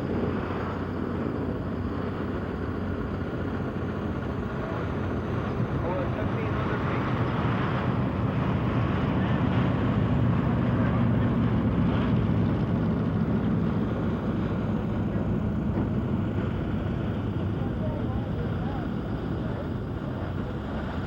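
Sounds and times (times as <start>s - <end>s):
turboprop plane droning: 0.0s - 21.0s.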